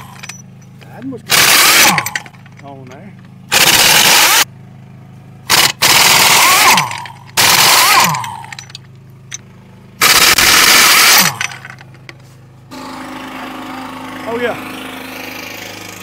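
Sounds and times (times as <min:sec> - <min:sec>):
pneumatic impact wrench hammering: 0:00.0 - 0:02.6, 0:03.5 - 0:04.5, 0:05.5 - 0:16.0
small engine running: 0:00.0 - 0:16.0.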